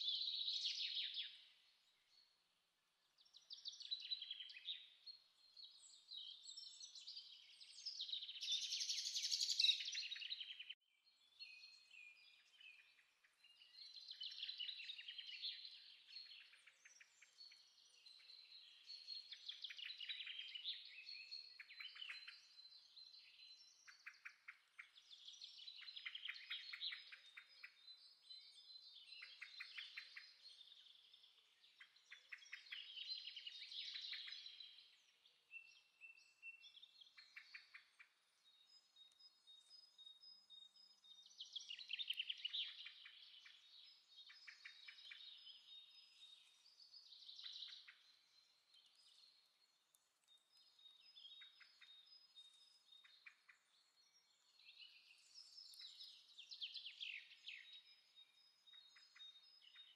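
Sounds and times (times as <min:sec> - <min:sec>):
faint trilled birdsong: 0:00.0 - 0:59.9.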